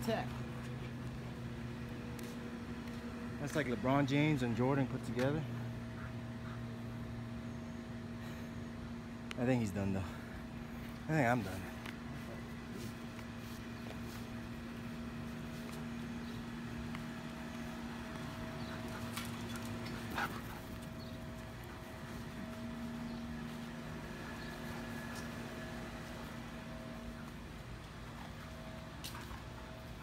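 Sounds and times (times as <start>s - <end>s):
two-tone machine hum: 0.0s - 30.0s.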